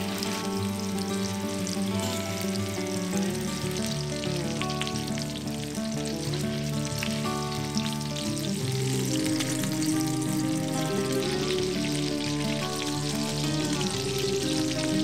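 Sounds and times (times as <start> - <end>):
patties sizzling in pan: 0.0 - 15.0
soft background music: 0.0 - 15.0.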